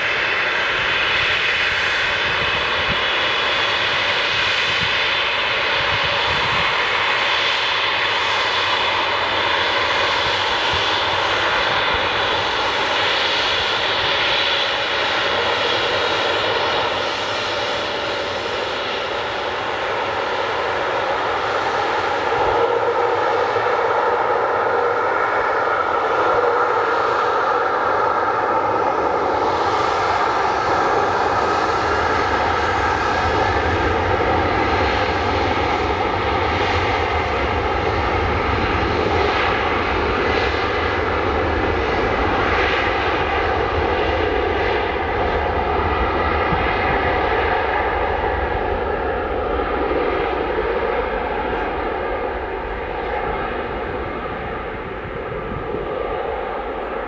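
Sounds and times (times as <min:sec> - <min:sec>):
jet airliner engines whining: 0:00.0 - 0:57.0.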